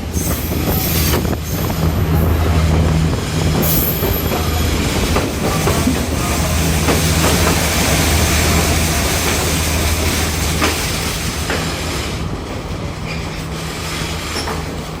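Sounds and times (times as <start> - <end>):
train engine hum: 0.0 - 15.0
train rolling on rails: 0.0 - 15.0.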